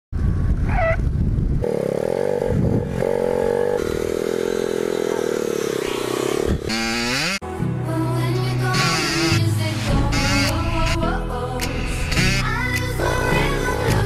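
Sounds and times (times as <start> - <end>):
pit bike engine revving: 1.4 - 7.4, 8.6 - 14.0.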